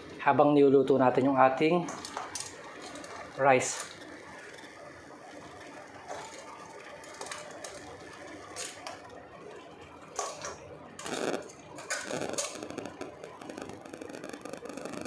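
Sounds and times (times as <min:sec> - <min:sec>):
broth bubbling in a pot: 0:01.5 - 0:15.0.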